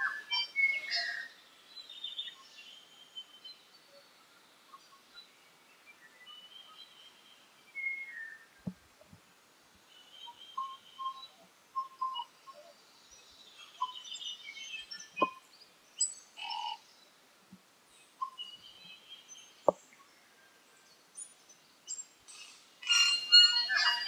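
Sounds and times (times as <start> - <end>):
bird singing: 0.0 - 8.8, 9.8 - 17.2, 17.9 - 24.0.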